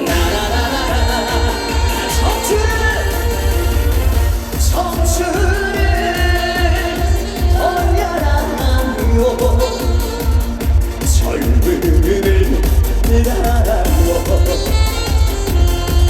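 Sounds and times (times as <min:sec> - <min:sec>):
steady bass beat: 0:00.0 - 0:16.0.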